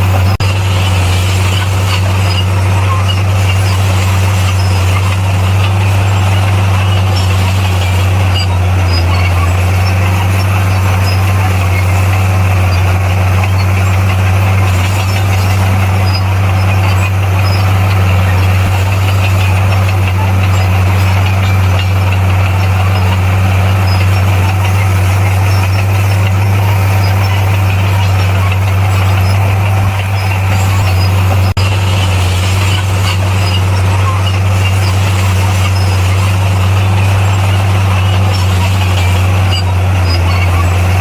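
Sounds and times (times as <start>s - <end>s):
diesel engine deep drone: 0.0s - 41.0s.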